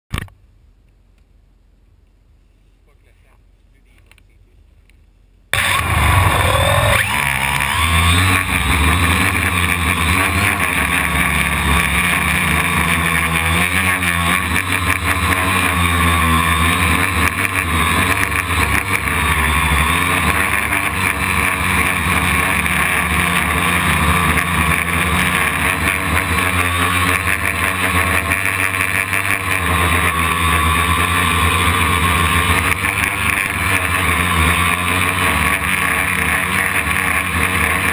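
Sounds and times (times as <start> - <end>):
quadcopter motors whining: 5.6 - 37.9.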